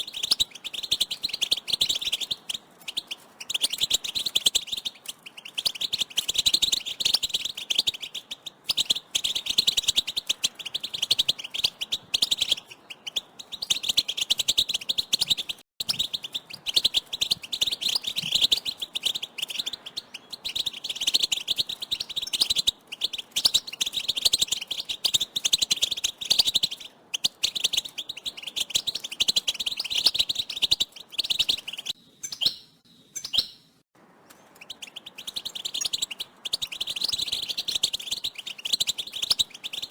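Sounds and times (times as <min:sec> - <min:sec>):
goldfinches twittering: 0:00.0 - 0:33.7, 0:34.4 - 0:39.9.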